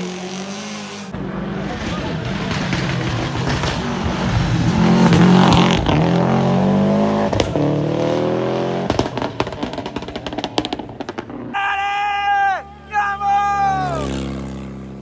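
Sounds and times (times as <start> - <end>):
rally car engine accelerating: 0.0 - 11.6, 12.7 - 15.0
sharp exhaust crackles: 1.1 - 15.0.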